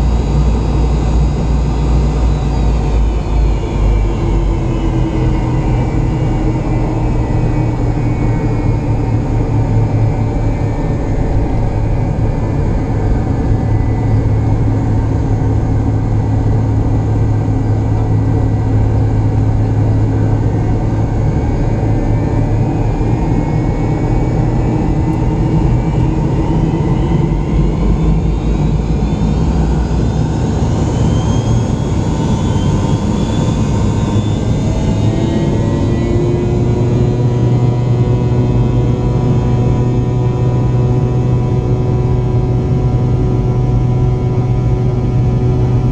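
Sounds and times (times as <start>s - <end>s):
jet engines rumbling and whining: 0.0s - 45.9s.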